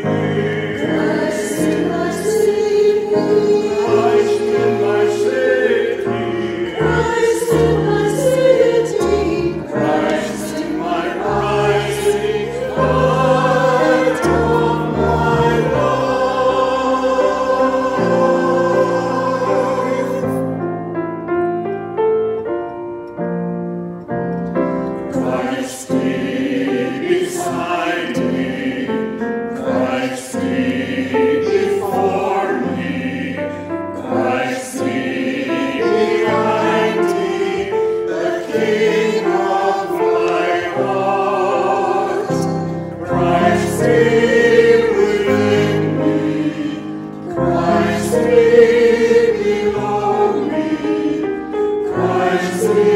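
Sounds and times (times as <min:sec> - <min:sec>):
choir singing a hymn: 0:00.0 - 0:22.0, 0:24.5 - 0:52.9
instrumental accompaniment chords: 0:00.0 - 0:52.9.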